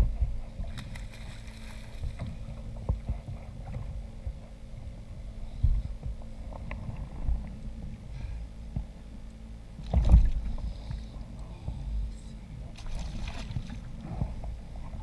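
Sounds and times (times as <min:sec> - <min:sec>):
low rumble of water: 0:00.0 - 0:15.0.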